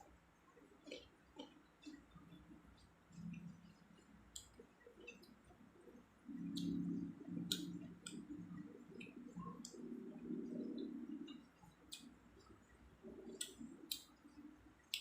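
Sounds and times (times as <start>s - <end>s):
low steady hum: 0.0s - 15.0s
wet mouth clicks and chewing: 0.6s - 15.0s.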